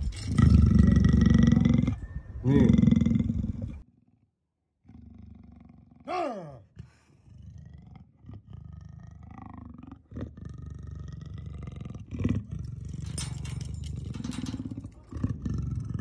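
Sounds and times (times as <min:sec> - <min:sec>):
leopard snarling growl: 0:00.2 - 0:03.8, 0:04.8 - 0:13.1, 0:14.0 - 0:16.0.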